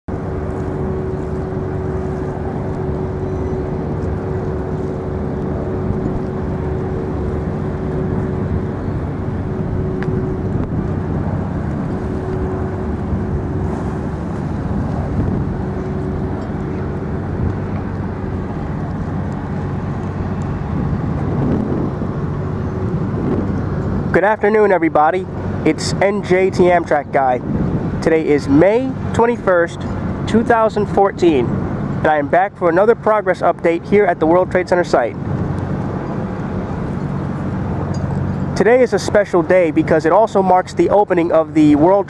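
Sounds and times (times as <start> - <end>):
city traffic rumble: 0.1 - 42.0
steady hum: 0.1 - 42.0.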